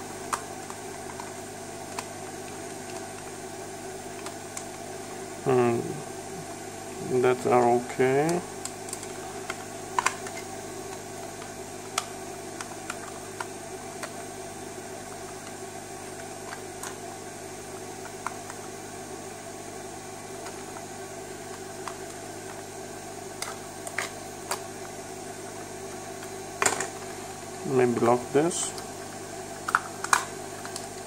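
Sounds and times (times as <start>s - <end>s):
background hiss and hum: 0.0s - 31.0s.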